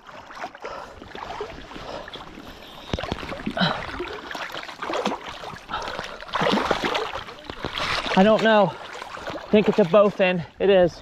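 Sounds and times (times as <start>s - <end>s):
fish thrashing and water splashing: 0.0s - 10.6s.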